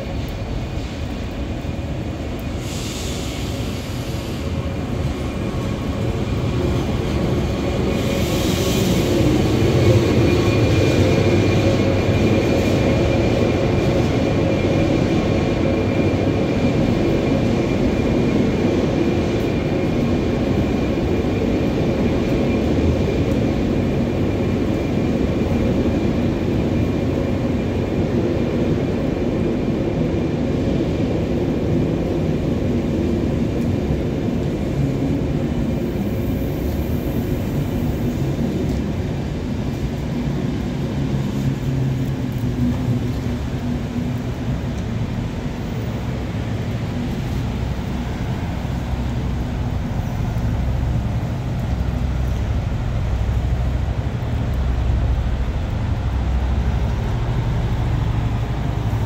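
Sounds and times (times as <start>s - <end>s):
diesel train engine drone: 0.0s - 59.0s
low rumble of train: 0.0s - 59.0s.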